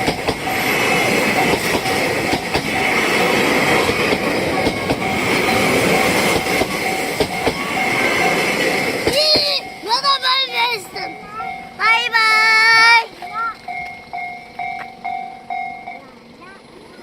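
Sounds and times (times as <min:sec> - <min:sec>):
crossing warning bell ringing: 0:00.0 - 0:17.0
train wheels running over rails: 0:00.0 - 0:17.0.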